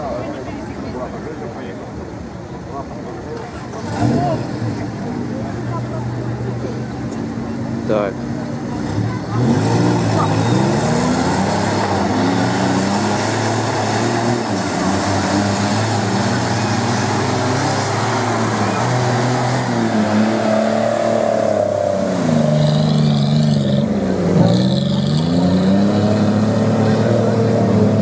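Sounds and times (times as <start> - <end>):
off-road vehicle engine revving: 3.5 - 28.0.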